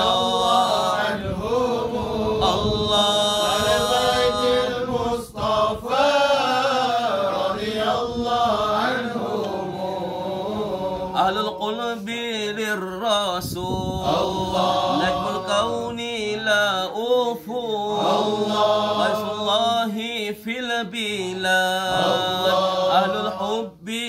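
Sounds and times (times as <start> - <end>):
men chanting: 0.0 - 24.0.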